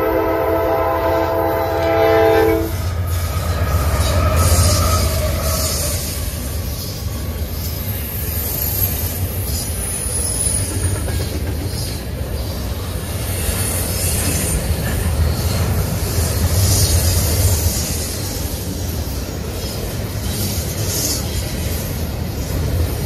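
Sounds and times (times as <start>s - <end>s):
freight train rumbling: 0.0s - 23.0s
wheels squealing on rails: 0.0s - 23.0s.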